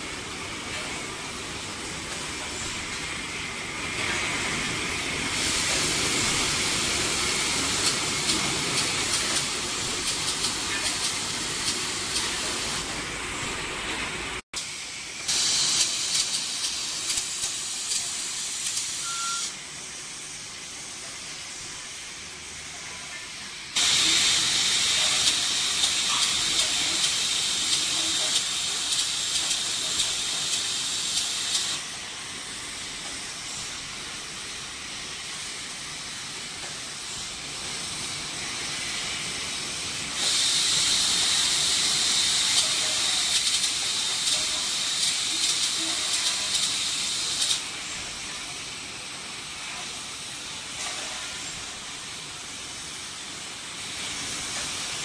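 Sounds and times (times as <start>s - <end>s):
bottling machinery running: 0.0s - 19.6s, 22.3s - 55.0s.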